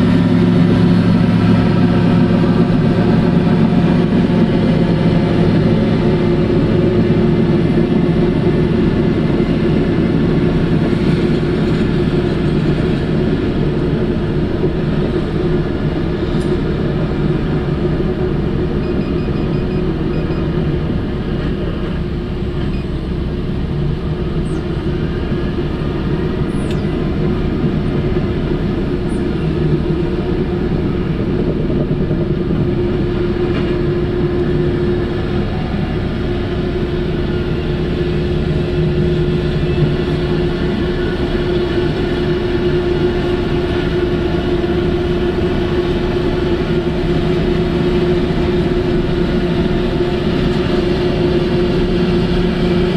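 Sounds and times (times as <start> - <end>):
large diesel engine droning: 0.0 - 52.9.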